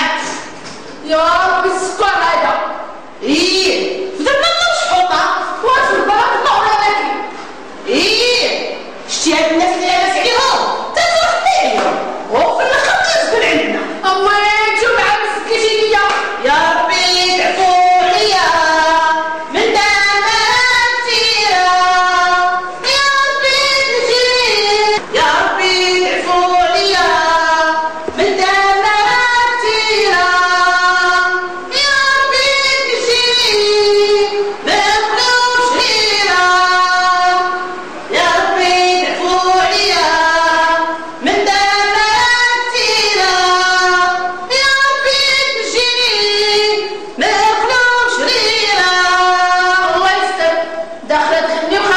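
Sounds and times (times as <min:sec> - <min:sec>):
women singing unaccompanied: 0:00.0 - 0:51.9.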